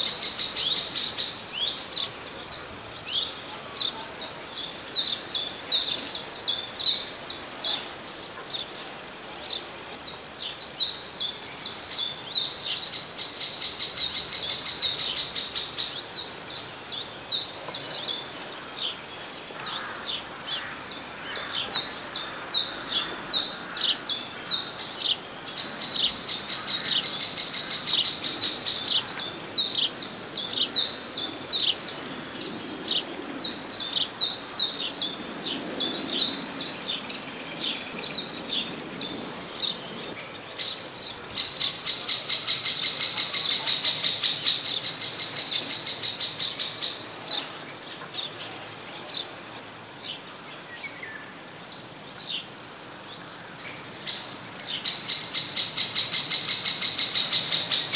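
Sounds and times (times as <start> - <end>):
small songbirds chirping: 0.0 - 57.9.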